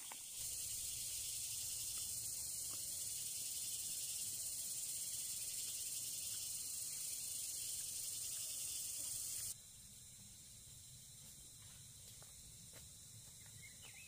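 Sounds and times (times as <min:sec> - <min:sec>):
steady high-pitched hiss: 0:00.0 - 0:14.0.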